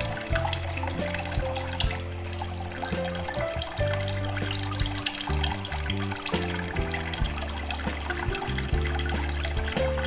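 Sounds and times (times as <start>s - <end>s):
instrumental background music: 0.0s - 10.0s
water trickling and splashing: 0.0s - 10.0s.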